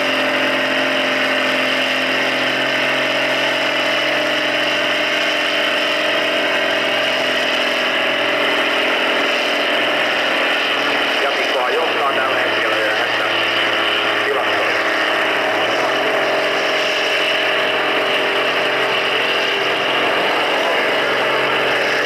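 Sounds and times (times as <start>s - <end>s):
diesel tractor engine under load: 0.0s - 22.0s.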